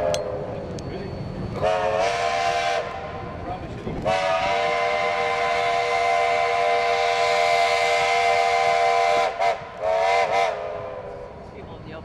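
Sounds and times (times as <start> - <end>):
steam locomotive chime whistle: 0.0 - 3.3, 4.1 - 11.3.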